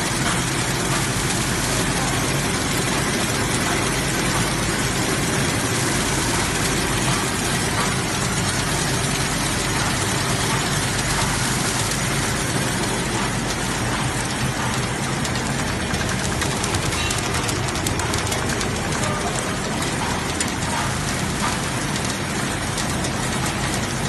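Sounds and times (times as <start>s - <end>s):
packing machine running: 0.0s - 24.0s.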